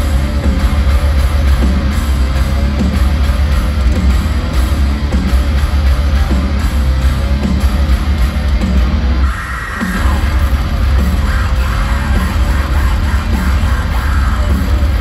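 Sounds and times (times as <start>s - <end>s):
live heavy rock band: 0.0s - 15.0s.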